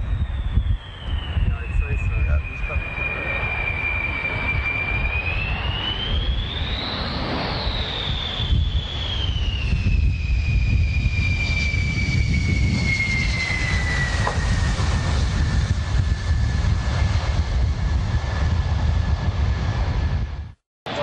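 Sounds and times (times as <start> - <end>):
jet engine high whine: 0.0 - 21.0
jet engines rumbling: 0.0 - 21.0.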